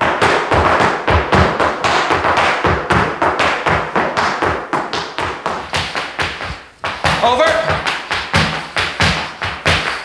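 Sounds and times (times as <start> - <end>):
hard shoes tapping and stamping: 0.0 - 10.0.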